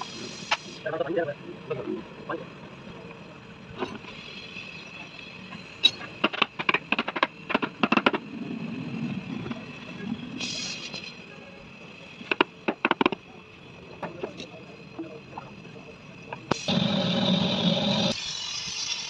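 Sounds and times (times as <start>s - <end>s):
steady background hum: 0.0s - 18.9s.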